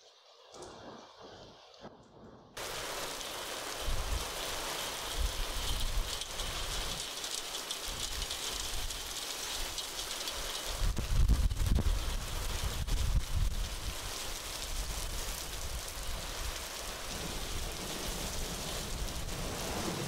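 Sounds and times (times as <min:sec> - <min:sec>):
heavy rain pouring: 0:00.4 - 0:20.0.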